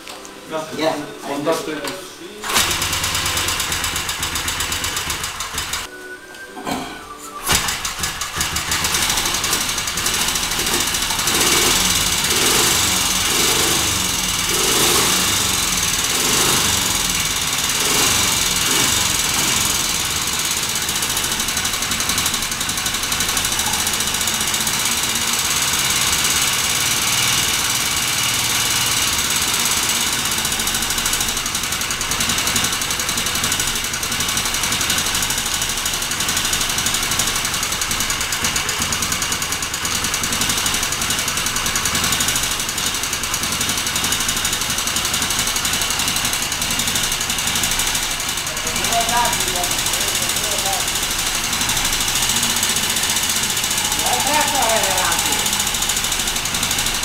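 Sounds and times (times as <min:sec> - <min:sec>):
motorcycle engine revving and idling: 0:02.4 - 0:05.9, 0:07.5 - 0:57.0.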